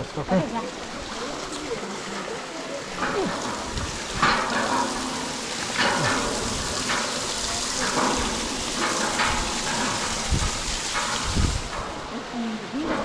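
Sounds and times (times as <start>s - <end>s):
hot spring water running: 0.0s - 13.0s
water splashes: 0.0s - 13.0s.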